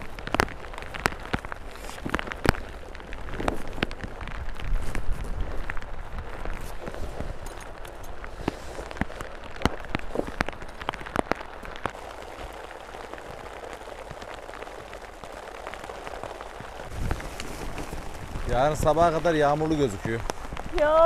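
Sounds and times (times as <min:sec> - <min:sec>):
heavy rain on plastic sheet: 0:00.0 - 0:21.0
raindrops ticking close by: 0:00.0 - 0:21.0.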